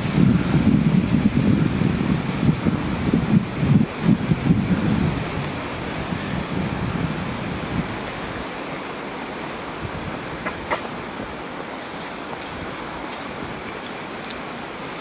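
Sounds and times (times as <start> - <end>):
river running water: 0.0 - 15.0.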